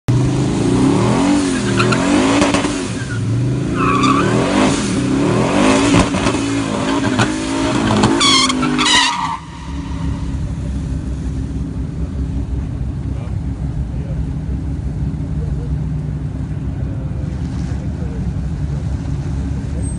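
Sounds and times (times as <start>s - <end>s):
truck engine revving: 0.1s - 19.9s.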